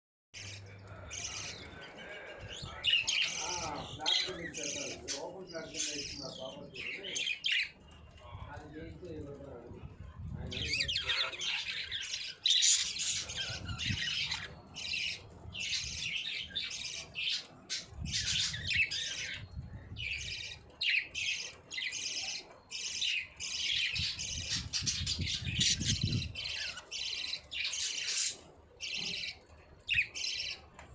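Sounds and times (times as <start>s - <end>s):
budgies chattering and warbling: 0.4s - 30.9s.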